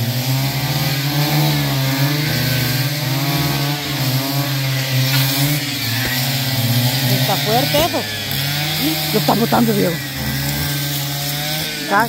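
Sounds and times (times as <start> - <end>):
brush cutter cutting grass: 0.0 - 12.0.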